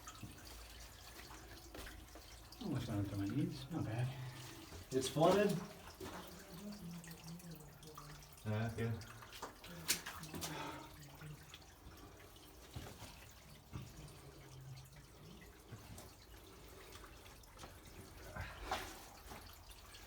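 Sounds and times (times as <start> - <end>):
faint water wash: 0.0 - 20.0
water dripping: 0.0 - 20.0.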